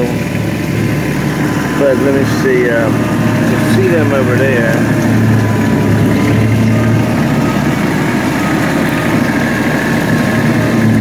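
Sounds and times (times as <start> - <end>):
rotary cutter mowing: 0.0 - 11.0
tractor engine running: 0.0 - 11.0.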